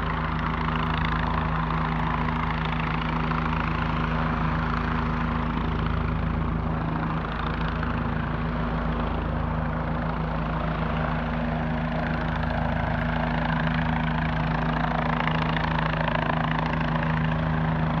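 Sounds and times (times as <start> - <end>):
helicopter hovering: 0.0 - 18.0.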